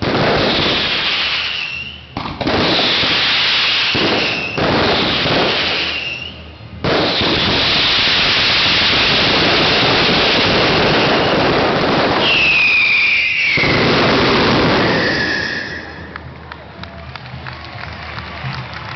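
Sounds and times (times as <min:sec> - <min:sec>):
fireworks bursting and crackling: 0:00.0 - 0:18.8
falling firework whistles: 0:00.2 - 0:06.5, 0:07.1 - 0:16.2.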